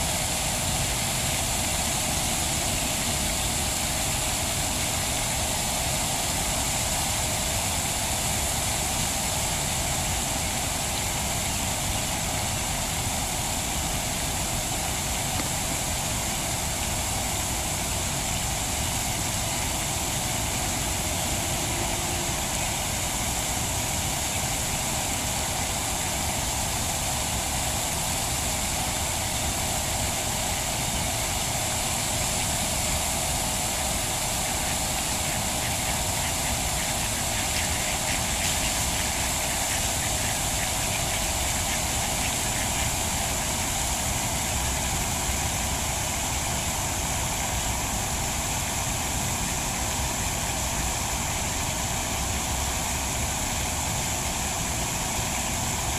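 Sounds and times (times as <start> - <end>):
low rumble with hiss: 0.0 - 55.9.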